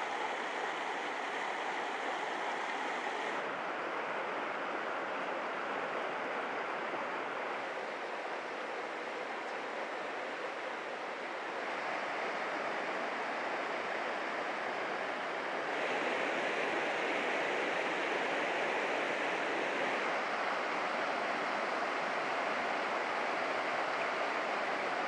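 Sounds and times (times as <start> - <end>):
river rushing over boulders: 0.0 - 25.0.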